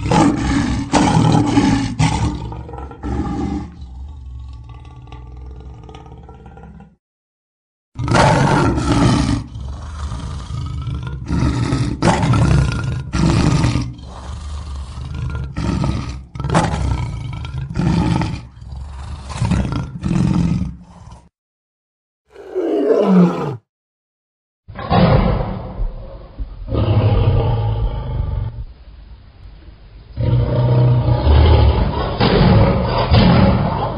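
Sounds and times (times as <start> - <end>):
lion roaring: 0.0 - 7.0, 8.0 - 21.3, 22.3 - 23.7, 24.7 - 28.6, 30.2 - 33.9.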